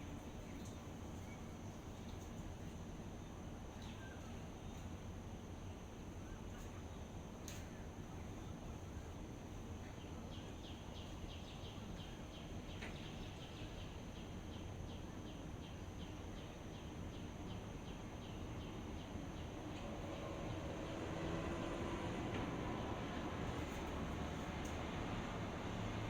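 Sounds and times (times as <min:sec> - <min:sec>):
insect drone: 0:01.3 - 0:26.0.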